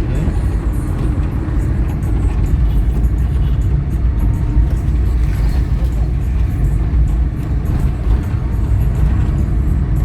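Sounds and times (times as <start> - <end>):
vehicle road and engine rumble: 0.0 - 10.0.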